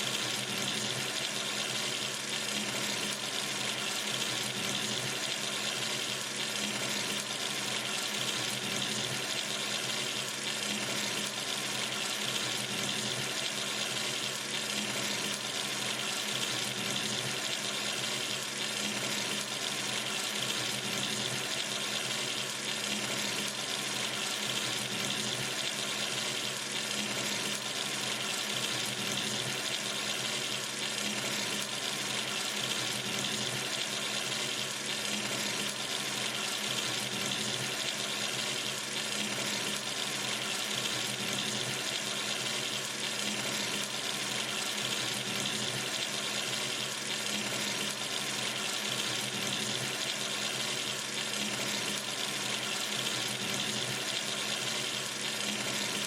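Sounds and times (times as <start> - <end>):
water running from sink tap: 0.0 - 56.0.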